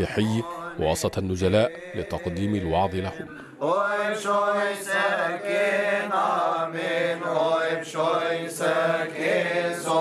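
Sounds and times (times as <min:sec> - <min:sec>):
men singing a slow hymn: 0:01.4 - 0:10.0.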